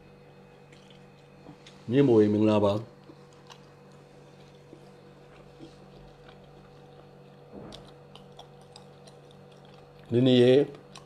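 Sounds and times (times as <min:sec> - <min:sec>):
person chewing: 0:00.5 - 0:01.9, 0:02.8 - 0:11.0
bite crunch: 0:00.5 - 0:11.0.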